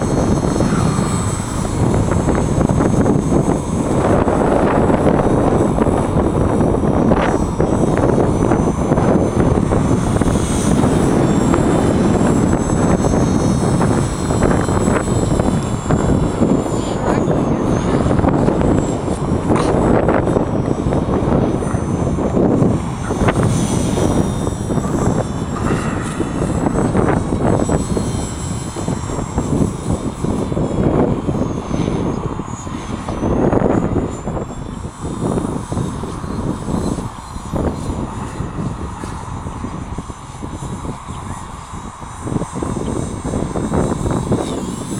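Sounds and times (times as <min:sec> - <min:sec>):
rc helicopter motor whine: 0:00.0 - 0:44.9
wind buffeting microphone: 0:00.0 - 0:44.9.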